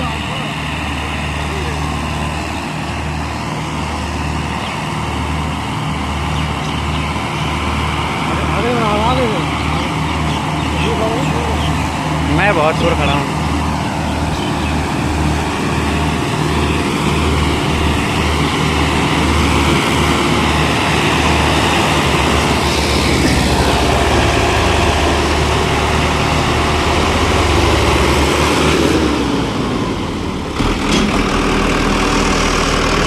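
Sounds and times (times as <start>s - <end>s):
tractor diesel engine running hard: 0.0s - 33.0s.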